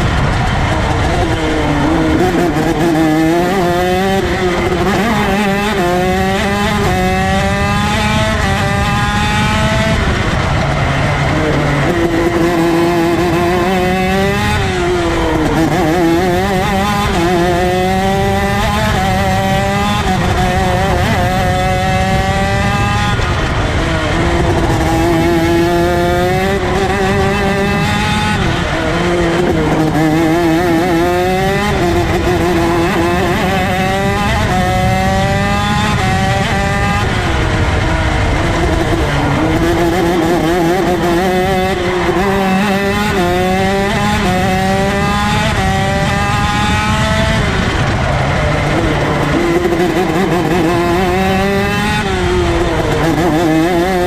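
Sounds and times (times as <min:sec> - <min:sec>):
kart engine revving through gears: 0:00.0 - 0:54.0.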